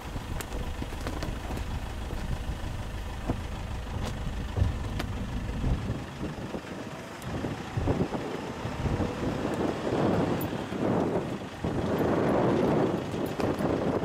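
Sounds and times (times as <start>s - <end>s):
vehicle engine rumbling: 0.0s - 14.0s
wind gusting on microphone: 0.0s - 14.0s.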